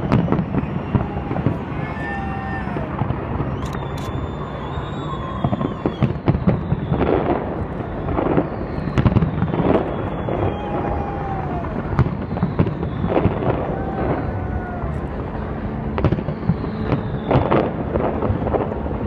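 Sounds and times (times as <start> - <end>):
firework whistles gliding: 0.0 - 15.0, 15.9 - 18.6
continuous rumble: 0.0 - 19.0.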